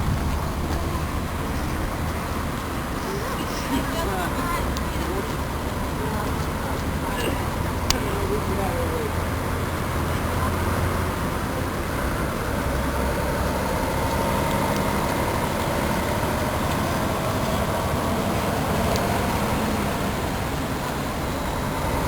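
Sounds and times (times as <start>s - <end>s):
engine running low rumble: 0.0s - 22.0s.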